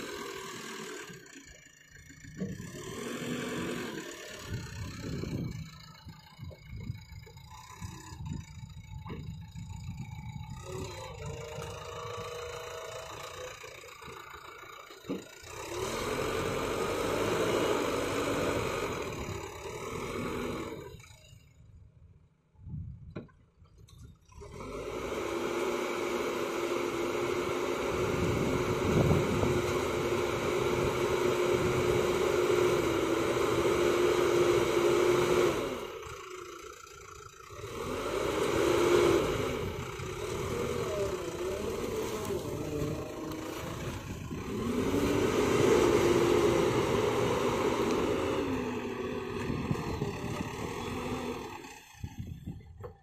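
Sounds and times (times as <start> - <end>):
diesel engine revving under load: 0.0 - 21.7, 24.0 - 53.0.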